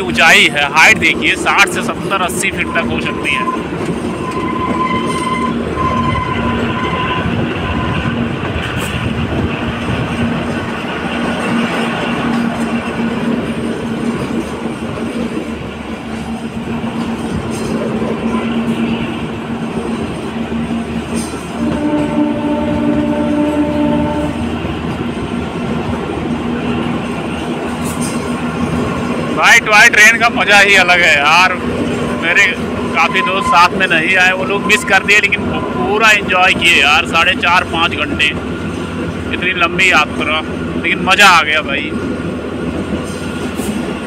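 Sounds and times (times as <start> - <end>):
train wheels rumbling and rattling: 0.0 - 44.0.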